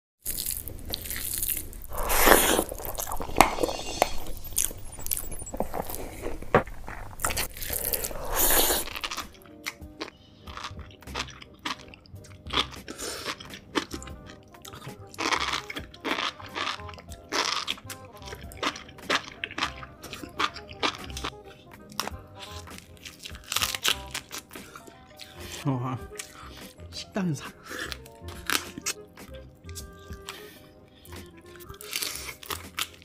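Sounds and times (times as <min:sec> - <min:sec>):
crunching and chewing crab: 0:00.2 - 0:33.0
background music: 0:00.3 - 0:33.0.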